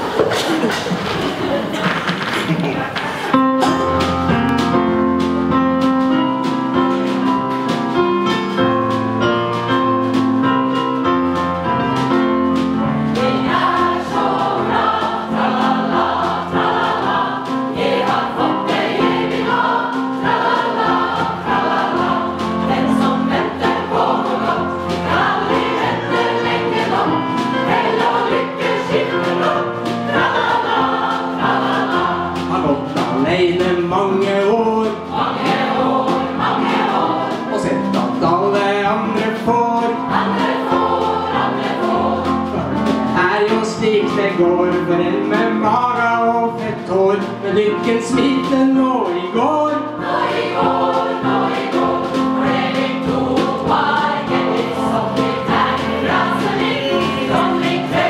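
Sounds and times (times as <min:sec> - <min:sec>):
small band playing: 0:00.0 - 0:58.0
choir singing in harmony: 0:03.2 - 0:58.0.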